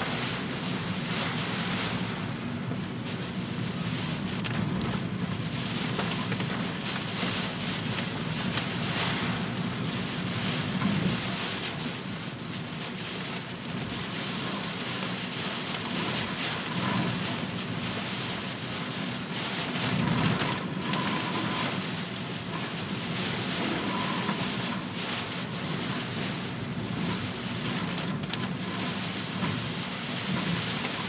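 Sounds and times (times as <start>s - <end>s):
heavy rain pouring: 0.0s - 31.0s.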